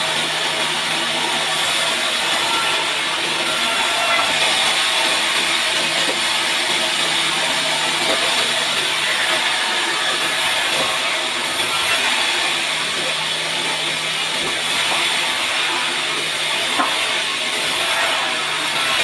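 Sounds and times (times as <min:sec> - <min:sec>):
band saw cutting log: 0:00.0 - 0:19.0.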